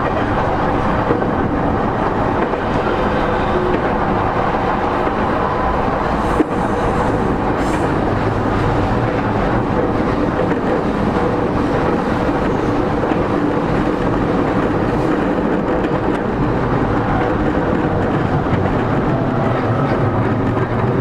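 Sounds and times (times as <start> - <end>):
wheel and rail rumble: 0.0 - 21.0.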